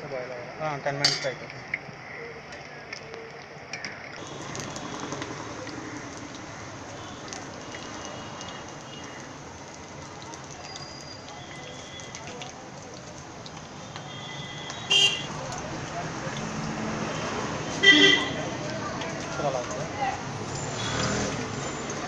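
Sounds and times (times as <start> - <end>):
food deep-frying in hot oil: 3.8 - 22.0.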